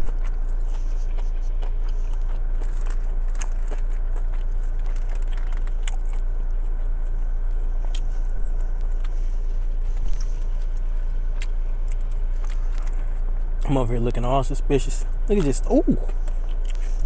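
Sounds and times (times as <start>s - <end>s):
person chewing food: 0.0s - 13.6s, 15.3s - 17.0s
car engine hum: 0.0s - 17.0s.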